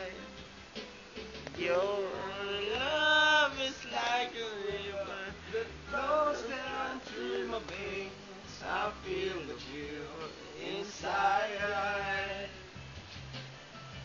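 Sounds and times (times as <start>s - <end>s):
man singing karaoke: 0.0s - 0.3s, 1.5s - 12.7s
faint backing music: 0.0s - 14.0s.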